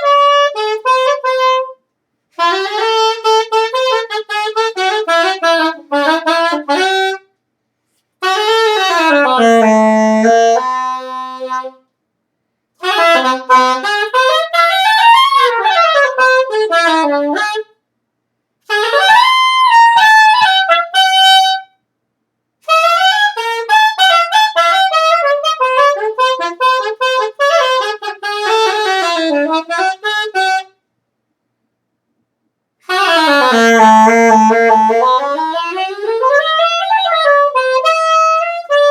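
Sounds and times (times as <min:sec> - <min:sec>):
solo horn improvising: 0:00.0 - 0:07.3, 0:08.2 - 0:11.9, 0:12.8 - 0:17.7, 0:18.6 - 0:21.7, 0:22.6 - 0:30.8, 0:32.8 - 0:38.9.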